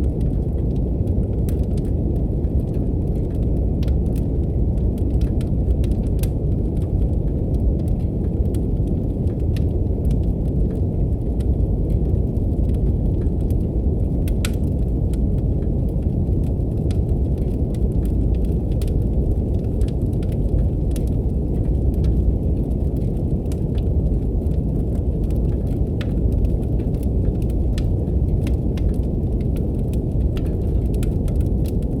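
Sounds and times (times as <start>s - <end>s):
fireplace crackling: 5.2s - 31.9s.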